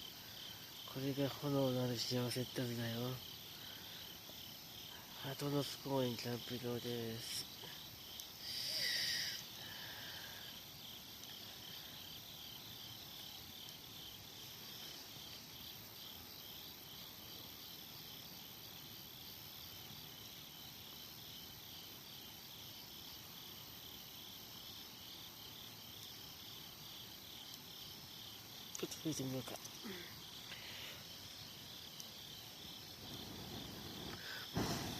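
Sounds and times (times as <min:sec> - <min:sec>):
crickets chirping: 0:00.0 - 0:34.9
high-pitched insect call: 0:00.0 - 0:34.9.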